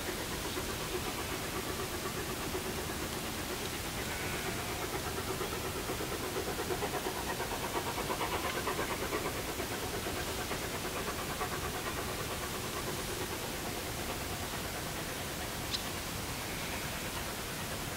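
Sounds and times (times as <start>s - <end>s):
distant steam locomotive chuffing: 0.0s - 17.9s
steady steam hiss: 0.0s - 17.9s.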